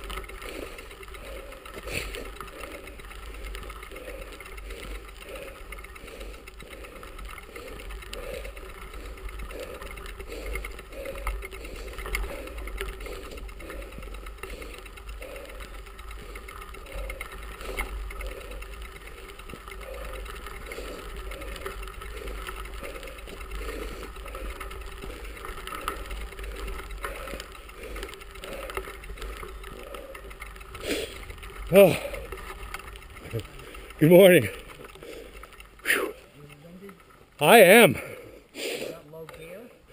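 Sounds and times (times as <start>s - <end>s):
bicycle tyres on gravel: 0.0s - 39.9s.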